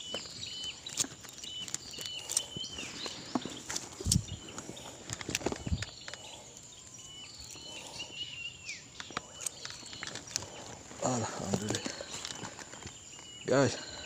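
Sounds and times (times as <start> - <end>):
birds whistling: 0.0 - 14.0.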